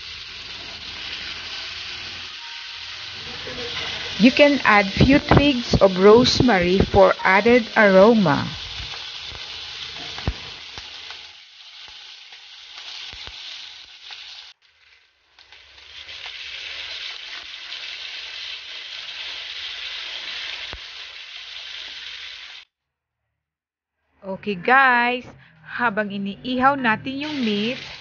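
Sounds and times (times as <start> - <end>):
pork sizzling in oil: 0.0 - 22.7, 27.2 - 28.0.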